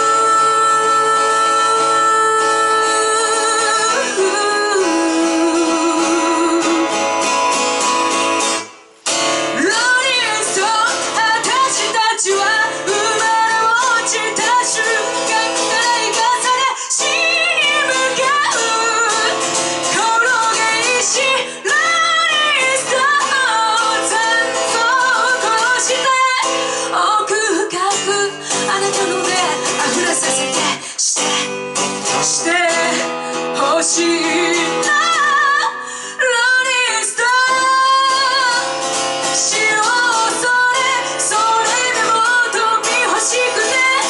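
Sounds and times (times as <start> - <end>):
woman singing with vibrato: 0.0 - 44.0.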